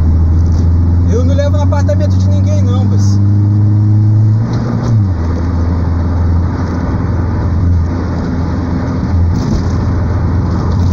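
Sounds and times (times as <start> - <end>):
car engine rumble from inside cabin: 0.0 - 10.9.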